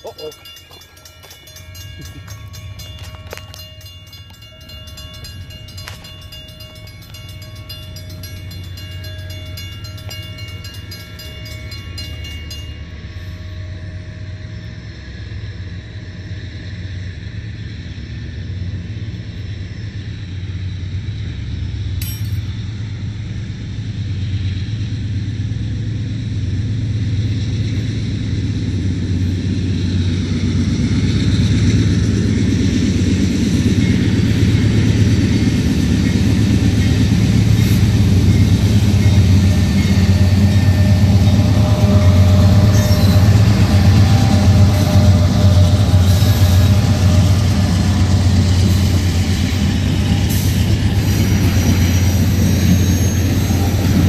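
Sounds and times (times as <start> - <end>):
diesel locomotive rumble: 0.0 - 54.0
railroad crossing bells ringing: 0.0 - 54.0.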